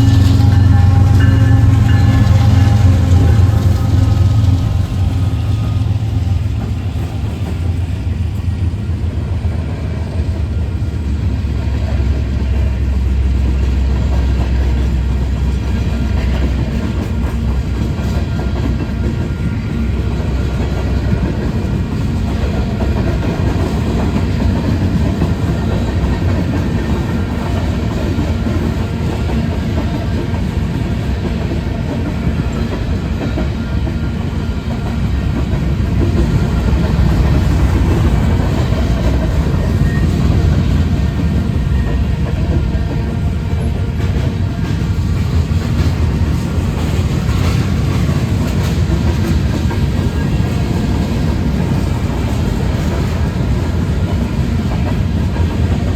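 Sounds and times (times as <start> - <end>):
freight train rumbling on rails: 0.0 - 55.9.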